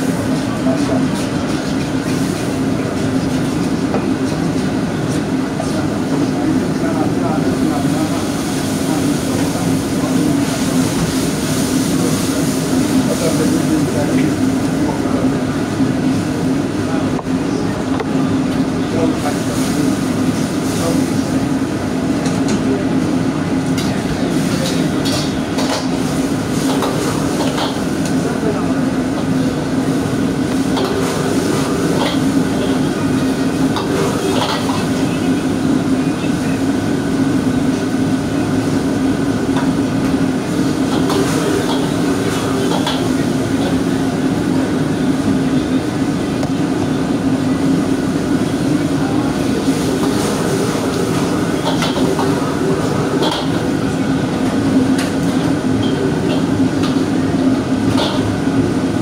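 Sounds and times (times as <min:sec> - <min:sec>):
constant hum: 0:00.0 - 0:59.0
wok range and exhaust hood roar: 0:00.0 - 0:59.0.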